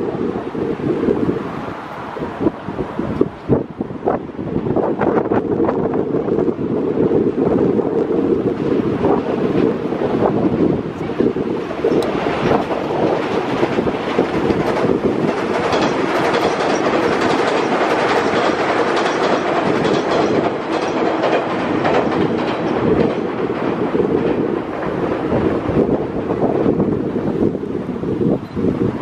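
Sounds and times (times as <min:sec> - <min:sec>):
train cars rumbling: 0:00.0 - 0:29.0
wheels clattering over rail joints: 0:05.0 - 0:29.0.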